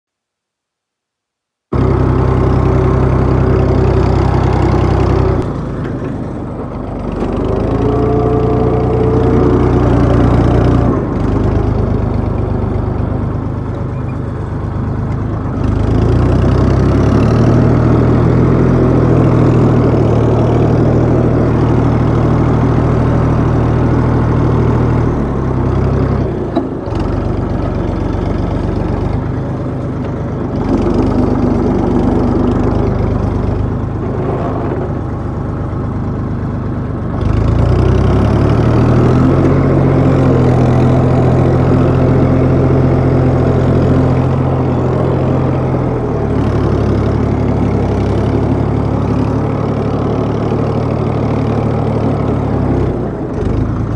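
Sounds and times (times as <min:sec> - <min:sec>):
tractor engine working hard: 0:01.7 - 0:53.9.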